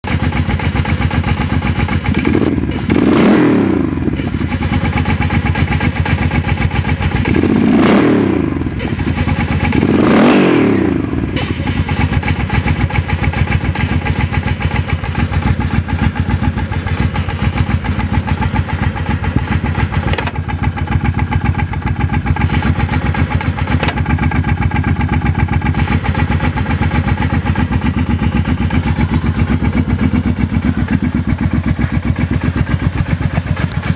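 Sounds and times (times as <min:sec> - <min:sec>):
motorcycle engine idling: 0:00.0 - 0:33.9
motorcycle engine revving: 0:00.0 - 0:33.9.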